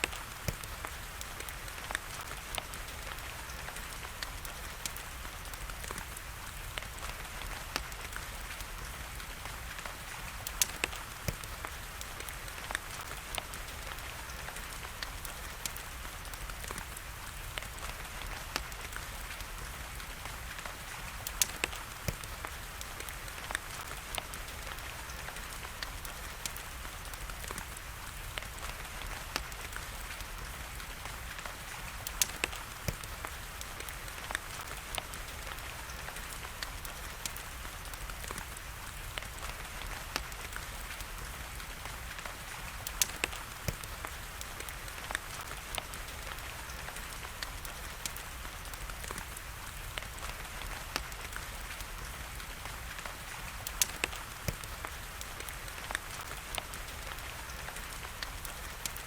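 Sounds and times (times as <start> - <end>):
rain falling: 0.0 - 59.0
wood fire crackling: 0.0 - 59.0.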